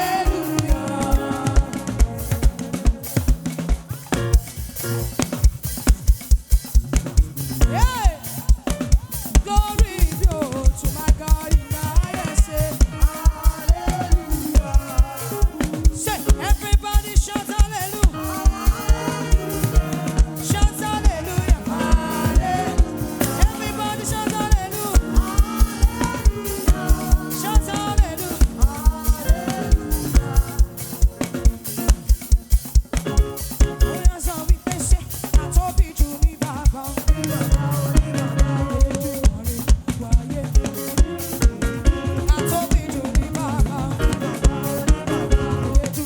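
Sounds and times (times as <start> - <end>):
person singing melody: 0.0 - 4.4, 7.6 - 31.9, 33.2 - 46.0.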